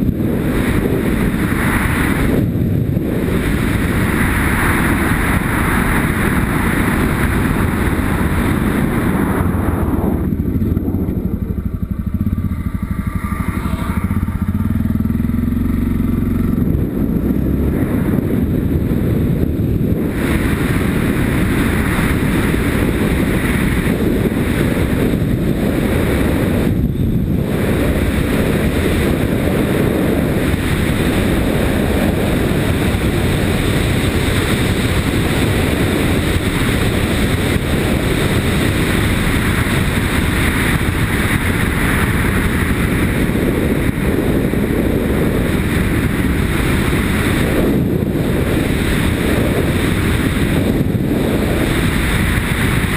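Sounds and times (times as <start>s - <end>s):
motorcycle engine running: 0.0s - 52.9s
wind buffeting microphone: 0.0s - 52.9s.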